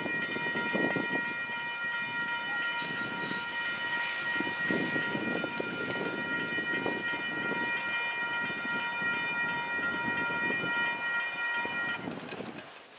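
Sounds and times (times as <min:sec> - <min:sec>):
high-pitched ringing tone: 0:00.0 - 0:12.4
train wheels rumbling on rails: 0:00.0 - 0:12.9.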